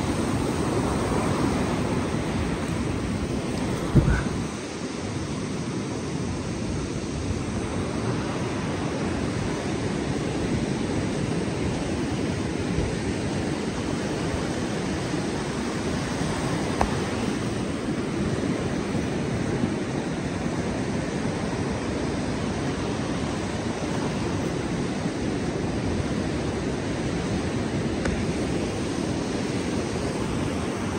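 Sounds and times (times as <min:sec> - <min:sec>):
ocean surf breaking: 0:00.0 - 0:30.9
wind rumbling on microphone: 0:00.0 - 0:30.9.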